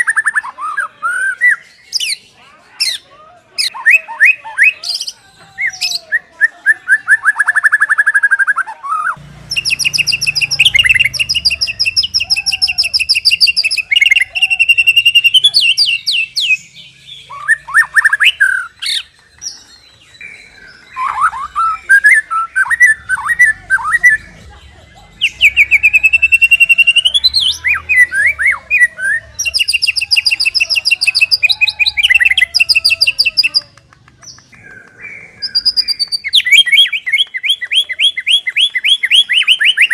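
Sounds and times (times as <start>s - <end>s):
bird singing: 3.7s - 39.9s.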